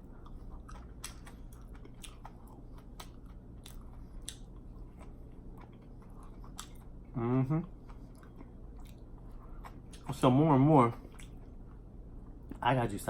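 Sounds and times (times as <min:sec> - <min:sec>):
person chewing food: 0:00.0 - 0:10.2, 0:11.0 - 0:12.6.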